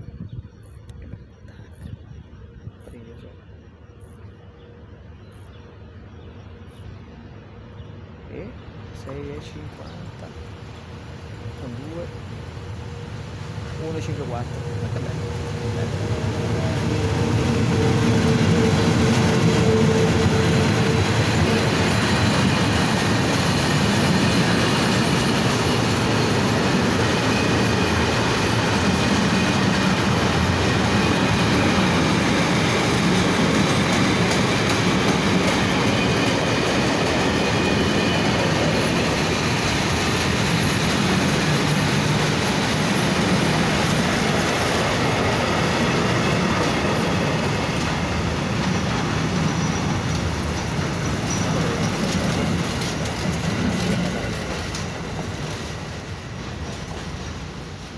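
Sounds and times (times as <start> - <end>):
electric locomotive humming: 0.0 - 57.9
train wheels on rails: 9.0 - 57.9.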